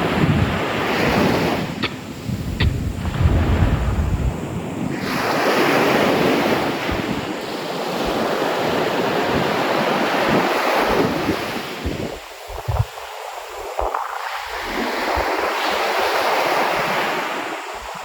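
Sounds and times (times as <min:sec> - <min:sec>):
sea waves breaking on beach: 0:00.0 - 0:18.0
wind rumble on microphone: 0:00.0 - 0:18.0.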